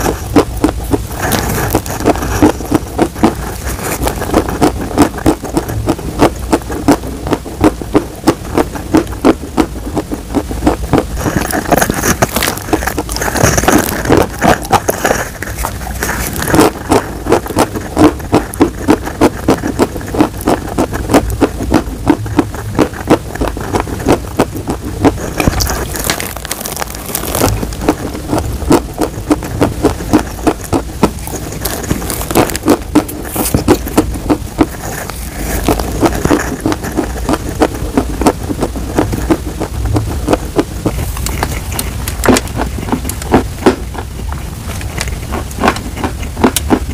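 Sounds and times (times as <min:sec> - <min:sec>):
chewing crunchy chalk: 0:00.0 - 0:46.9.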